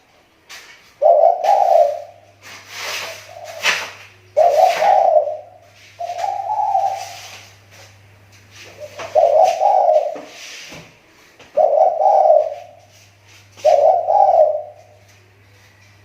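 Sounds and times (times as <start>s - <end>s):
dove cooing: 1.0s - 10.7s, 11.4s - 15.2s.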